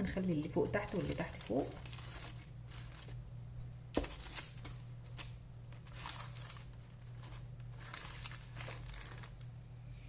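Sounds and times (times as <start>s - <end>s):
parchment paper crinkling: 0.3s - 3.2s, 4.0s - 9.5s.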